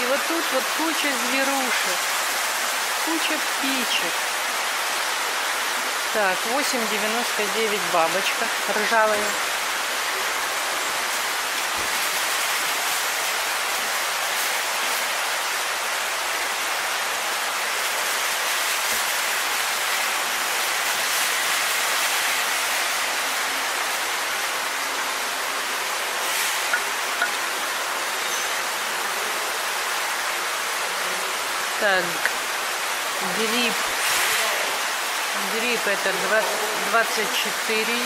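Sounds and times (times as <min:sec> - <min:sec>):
rushing water hiss: 0:00.0 - 0:38.0.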